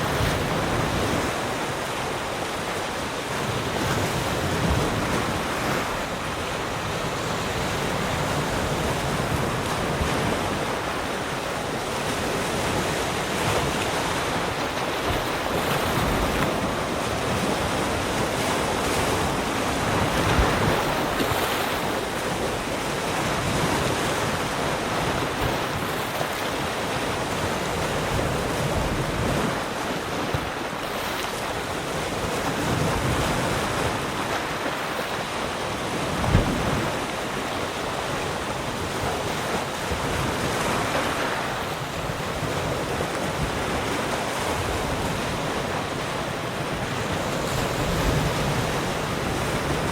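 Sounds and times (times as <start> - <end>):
waves breaking on shore: 0.0 - 49.9.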